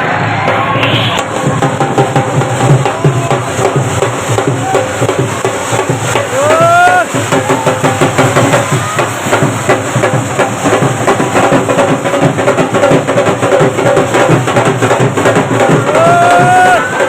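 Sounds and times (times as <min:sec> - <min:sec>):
loud music with fast drum beat: 0:00.0 - 0:17.0.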